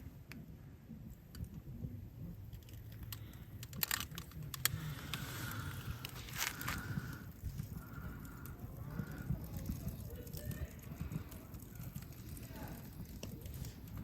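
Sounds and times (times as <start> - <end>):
campfire crackling and snapping: 1.1 - 14.0.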